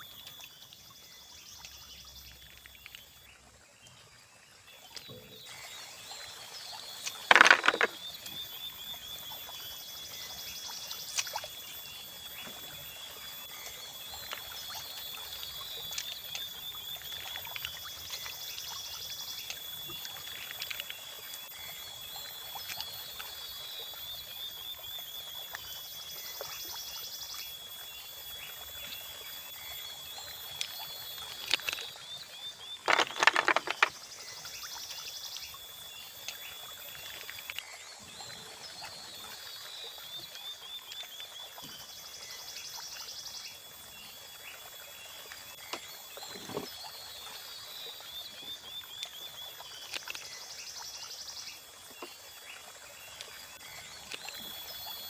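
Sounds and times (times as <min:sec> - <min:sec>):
running water: 0:00.0 - 0:55.0
high insect trill: 0:04.9 - 0:55.0.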